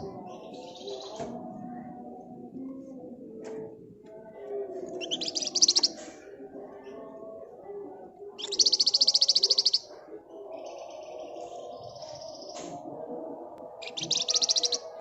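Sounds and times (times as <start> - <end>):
low bird chatter: 0.0 - 15.0.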